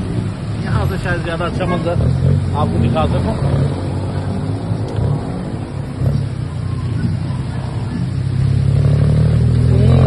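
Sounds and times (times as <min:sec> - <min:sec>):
tuk-tuk engine running: 0:00.0 - 0:10.0.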